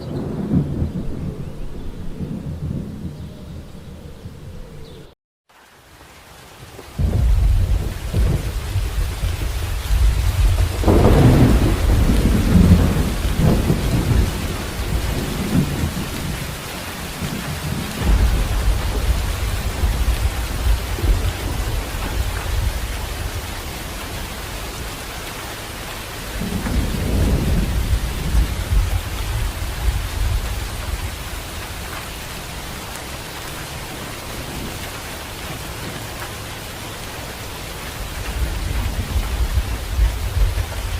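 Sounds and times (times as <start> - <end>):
rolling thunder rumbles: 0.0 - 5.2, 7.0 - 36.2, 38.0 - 40.9
steady rain: 0.0 - 40.9.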